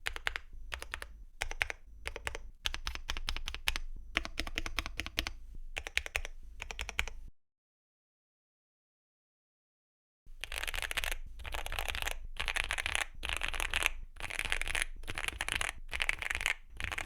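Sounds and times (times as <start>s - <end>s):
mechanical keyboard typing: 0.0s - 7.2s, 10.4s - 17.0s.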